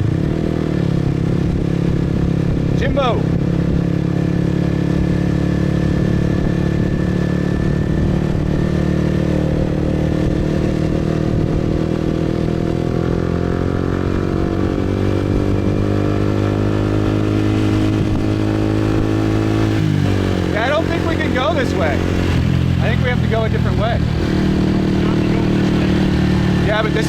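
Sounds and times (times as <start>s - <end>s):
motorbike engine running: 0.0s - 27.0s.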